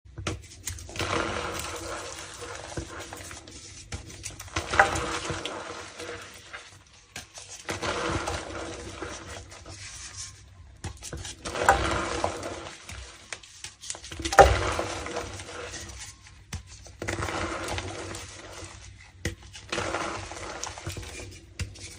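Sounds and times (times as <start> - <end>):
chalk and foam crunching: 0.3 - 21.9.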